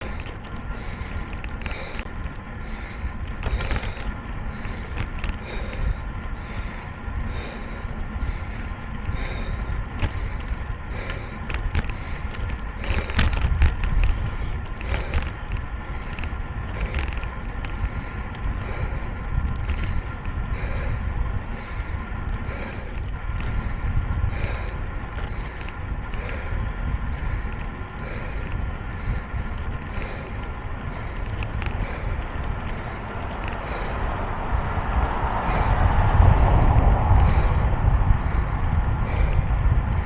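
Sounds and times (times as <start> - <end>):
bicycle clicks and rattles: 0.0 - 40.0
road and tyre noise: 0.0 - 40.0
wind rumbling on microphone: 0.0 - 40.0.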